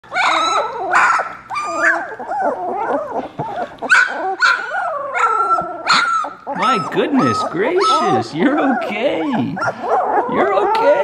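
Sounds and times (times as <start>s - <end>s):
puppies whining and yelping: 0.0s - 11.0s.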